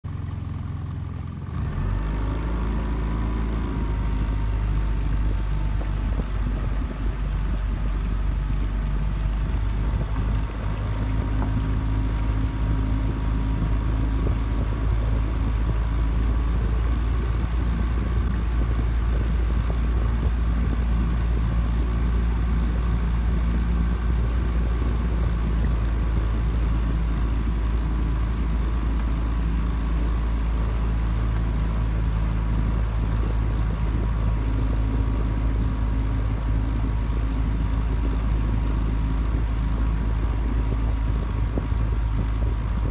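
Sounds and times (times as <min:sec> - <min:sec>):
boat motor running: 0:00.1 - 0:42.9.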